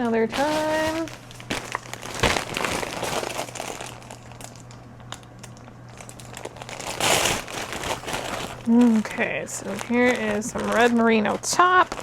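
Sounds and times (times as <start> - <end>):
bags crinkling and rustling: 0.0 - 12.0.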